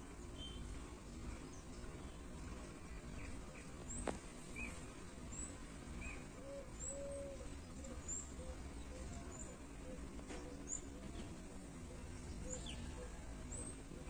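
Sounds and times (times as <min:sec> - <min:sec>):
low background rumble: 0:00.0 - 0:14.0
birds chirping: 0:00.1 - 0:14.0.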